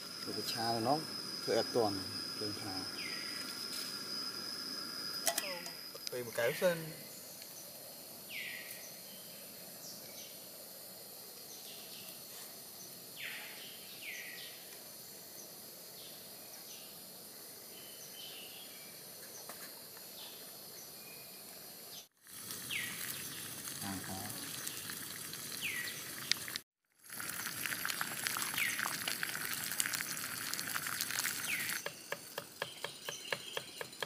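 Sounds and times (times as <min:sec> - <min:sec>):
high insect drone: 0:00.0 - 0:26.2, 0:27.1 - 0:34.0.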